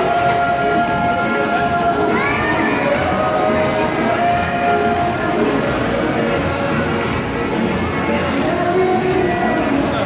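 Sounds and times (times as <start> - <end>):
carousel music: 0.0 - 10.0.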